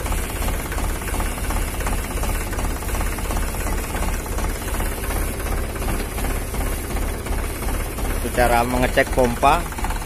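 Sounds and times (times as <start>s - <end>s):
diesel tractor engine idling: 0.0s - 10.0s.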